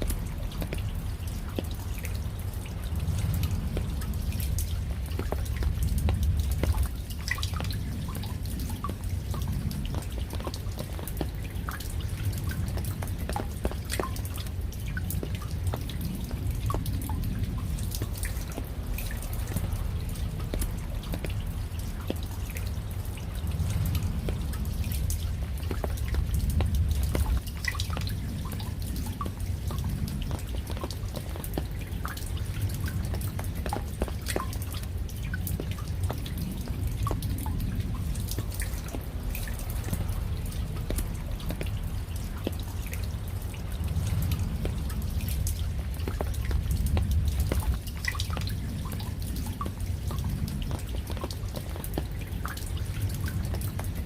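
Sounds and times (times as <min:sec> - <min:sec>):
drops dripping and tapping: 0:00.0 - 0:54.0
rain falling: 0:00.0 - 0:54.0
low rumble: 0:02.0 - 0:51.2.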